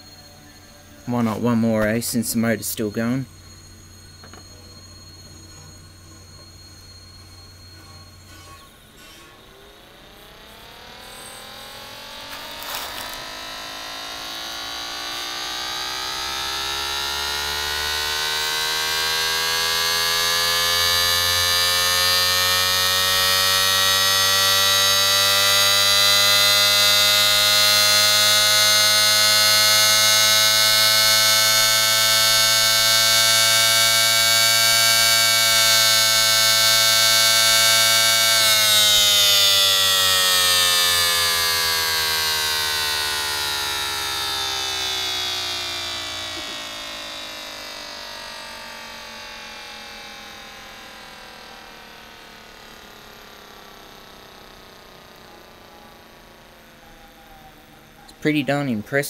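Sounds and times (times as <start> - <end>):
homemade siren wailing: 0.0 - 58.8.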